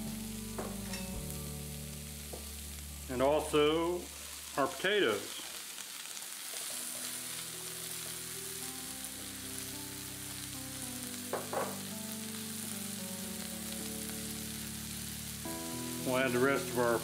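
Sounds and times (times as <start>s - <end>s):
soft background music: 0.0s - 5.3s, 6.6s - 17.0s
vegetables sizzling in oil: 0.0s - 17.0s.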